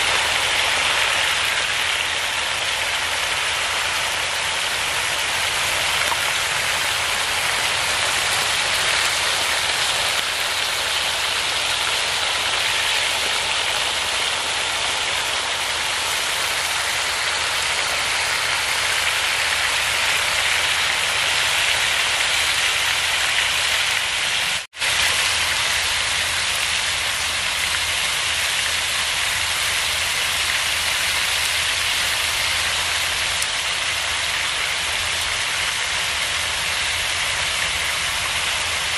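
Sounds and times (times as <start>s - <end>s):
patties sizzling on hot griddle: 0.0s - 38.9s.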